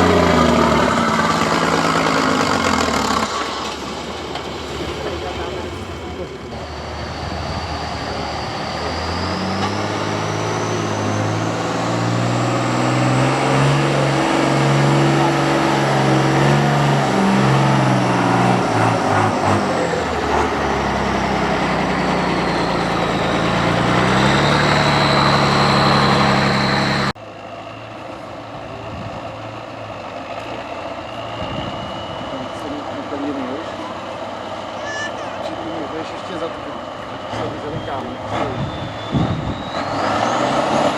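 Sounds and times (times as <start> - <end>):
truck engine working hard: 0.0 - 40.9.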